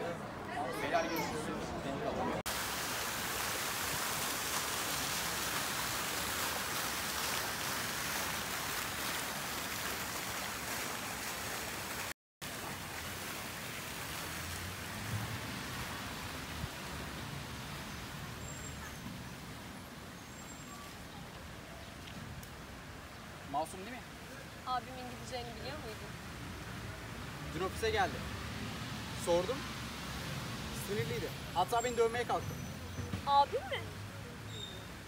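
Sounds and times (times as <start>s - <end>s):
outdoor hiss: 2.4s - 33.8s
fountain water splashing into pool: 2.5s - 35.0s.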